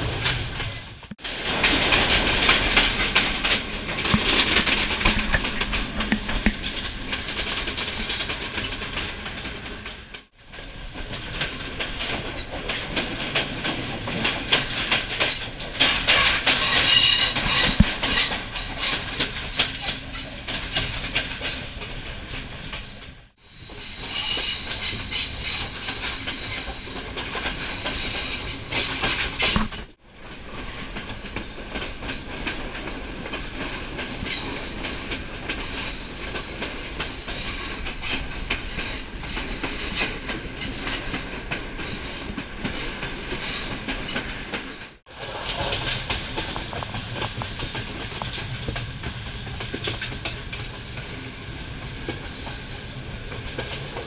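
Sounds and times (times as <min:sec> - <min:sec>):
train rumble and rush: 0:00.0 - 0:54.0
wheels clattering over rail joints: 0:00.0 - 0:54.0.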